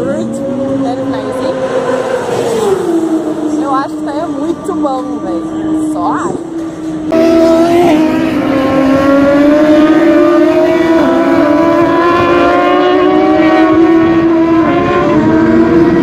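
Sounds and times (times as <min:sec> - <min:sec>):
racing motorcycle engines revving: 0:00.0 - 0:16.0.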